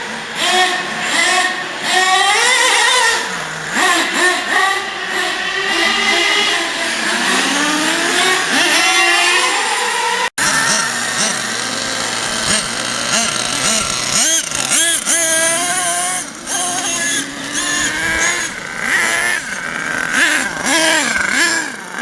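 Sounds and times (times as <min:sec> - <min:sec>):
small glow engine revving: 0:00.0 - 0:22.0.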